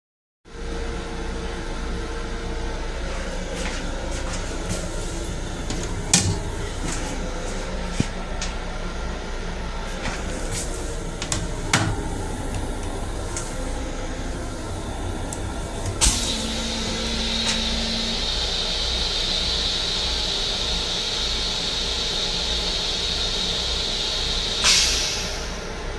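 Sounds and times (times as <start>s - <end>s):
railcar running hum: 0.5s - 25.9s.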